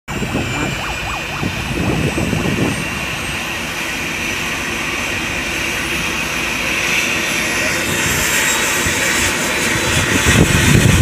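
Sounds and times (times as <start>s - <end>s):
helicopter turbine whine: 0.1s - 11.0s
rotor rushing: 0.1s - 11.0s.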